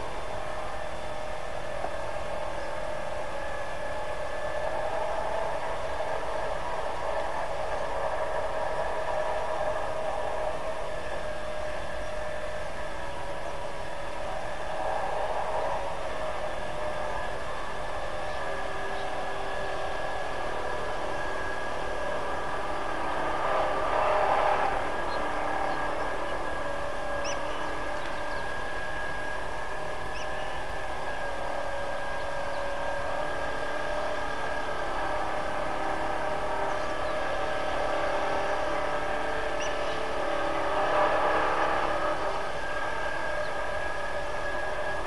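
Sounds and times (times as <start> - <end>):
continuous hiss: 0.0 - 45.0
steady hums drone: 0.0 - 45.0.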